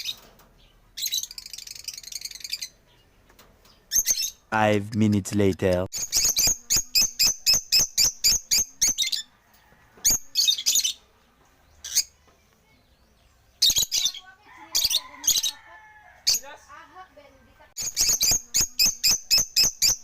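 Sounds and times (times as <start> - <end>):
lovebirds chirping: 0.0 - 9.4, 10.0 - 20.0.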